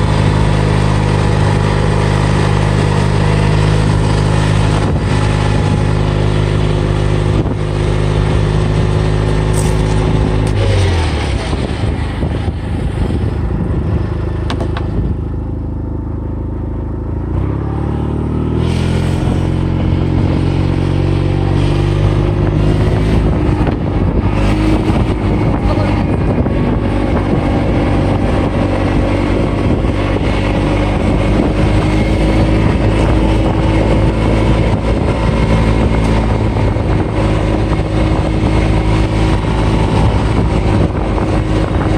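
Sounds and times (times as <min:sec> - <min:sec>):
road noise on gravel: 0:00.0 - 0:41.9
utility vehicle engine running: 0:00.0 - 0:41.9.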